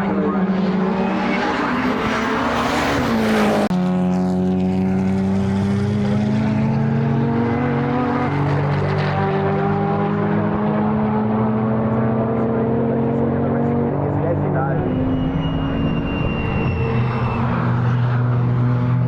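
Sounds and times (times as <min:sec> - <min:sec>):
race car engines running: 0:00.0 - 0:19.0.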